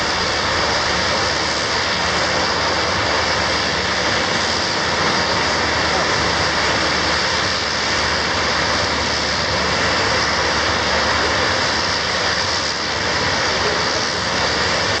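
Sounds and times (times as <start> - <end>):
aircraft engines running: 0.0 - 15.0.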